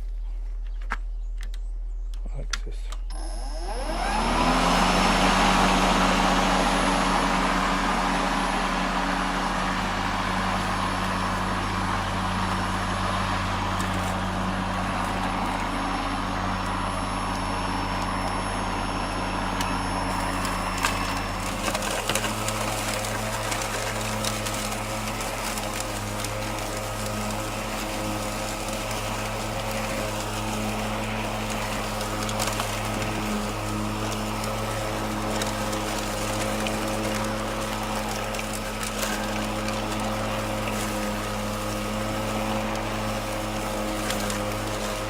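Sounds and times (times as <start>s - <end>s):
electric lawn mower running: 3.1s - 45.0s.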